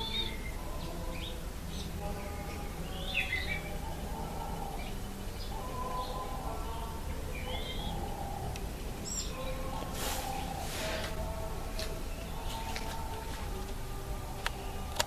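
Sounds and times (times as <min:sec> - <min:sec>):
outdoor background noise: 0:00.0 - 0:15.0
small birds chirping: 0:00.0 - 0:15.0.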